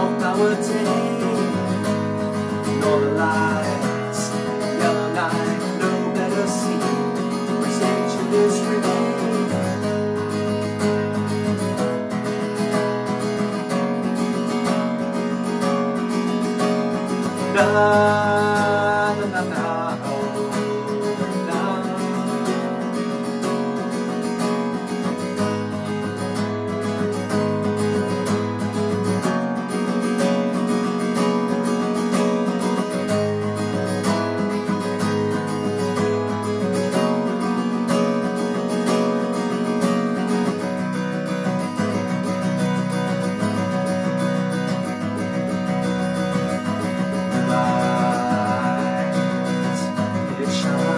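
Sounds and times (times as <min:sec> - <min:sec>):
acoustic guitar strummed and picked: 0:00.0 - 0:50.9.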